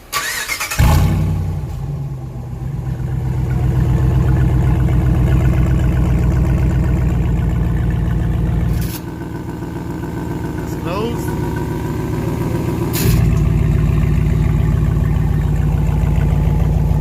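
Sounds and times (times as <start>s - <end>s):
truck engine cranking: 0.0s - 2.0s, 2.8s - 17.0s
truck engine idling loudly: 1.3s - 17.0s.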